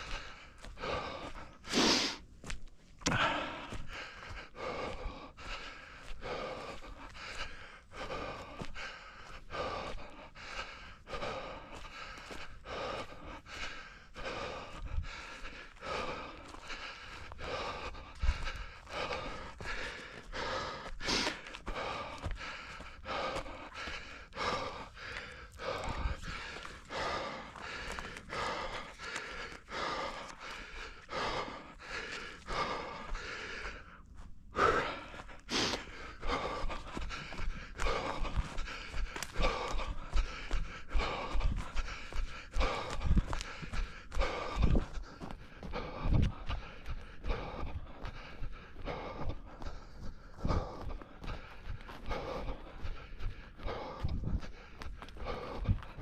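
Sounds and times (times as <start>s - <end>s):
person breathing hard: 0.0s - 56.0s.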